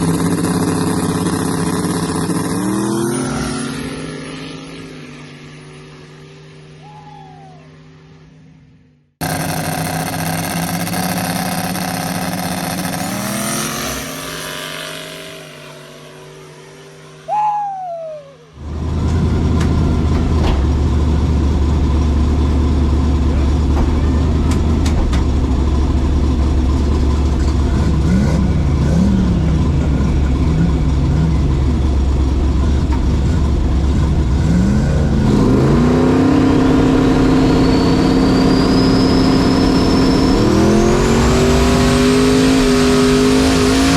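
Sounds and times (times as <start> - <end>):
drag race engine rumbling and revving: 0.0 - 6.8, 7.8 - 17.3, 18.5 - 43.9.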